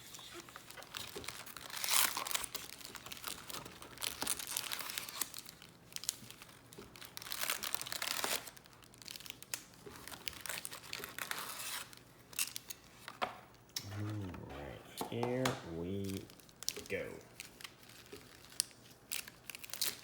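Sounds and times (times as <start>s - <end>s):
plastic wrappers crinkling and tearing: 0.1s - 13.1s, 16.0s - 20.0s.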